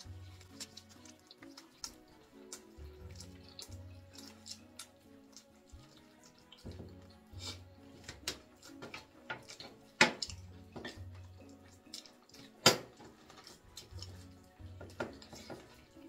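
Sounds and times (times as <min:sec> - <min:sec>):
people eating by hand: 0:00.0 - 0:16.0
quiet music with low bass: 0:00.0 - 0:16.0.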